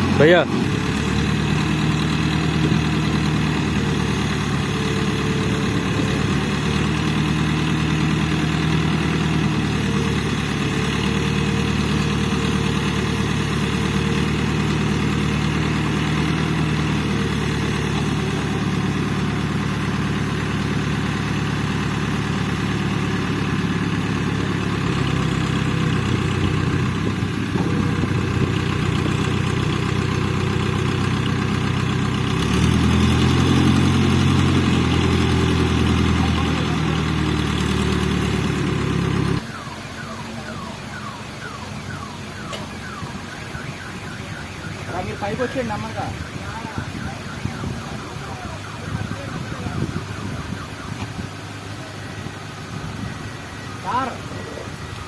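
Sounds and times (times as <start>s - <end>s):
crane diesel engine running: 0.0s - 55.0s.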